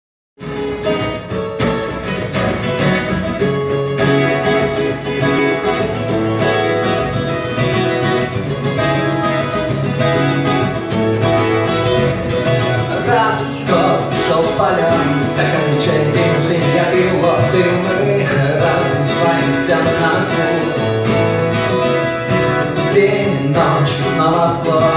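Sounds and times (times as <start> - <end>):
acoustic guitars playing: 0.4 - 24.9.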